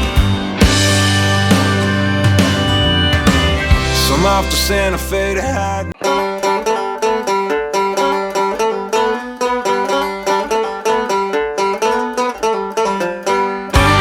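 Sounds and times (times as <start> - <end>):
plucked string instrument melody: 0.0 - 14.0.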